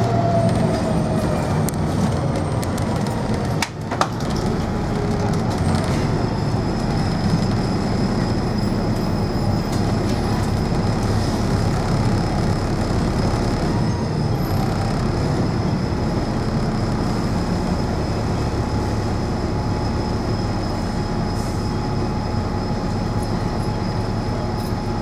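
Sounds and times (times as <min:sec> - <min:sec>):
bus diesel engine idling: 0:00.0 - 0:25.0.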